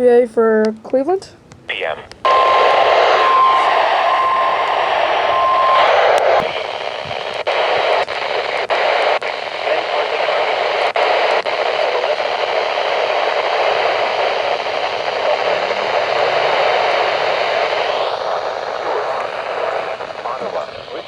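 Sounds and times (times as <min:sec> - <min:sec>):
radio static hiss: 0:01.7 - 0:21.0.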